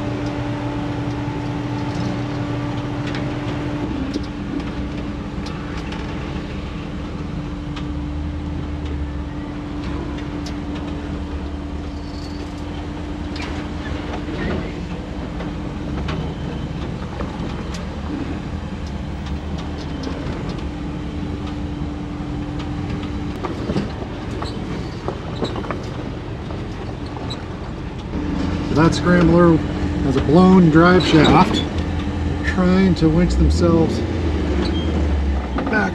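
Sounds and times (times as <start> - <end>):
constant hum: 0.0 - 35.9
vehicle engine low drone: 0.0 - 35.9.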